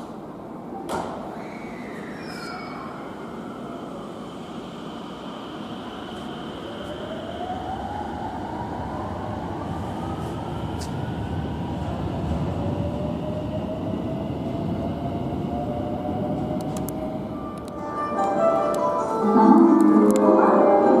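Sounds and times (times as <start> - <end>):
train wheels and motors rumbling: 0.0 - 17.8.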